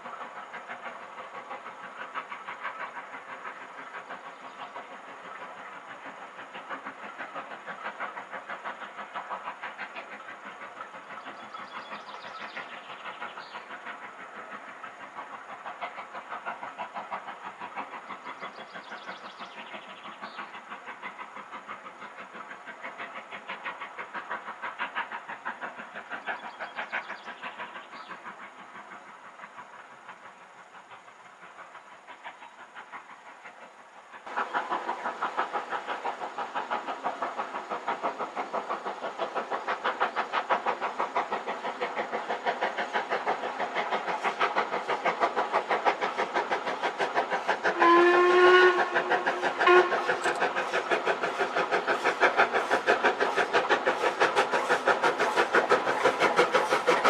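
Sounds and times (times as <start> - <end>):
steam locomotive exhaust beat: 0.0 - 57.0.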